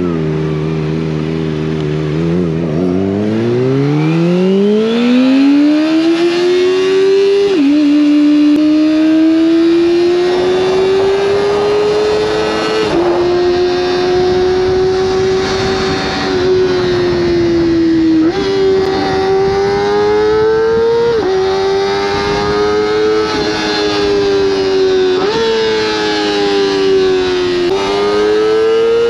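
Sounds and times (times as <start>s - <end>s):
motorcycle engine at high revs: 0.0s - 29.0s
wind noise: 4.9s - 29.0s.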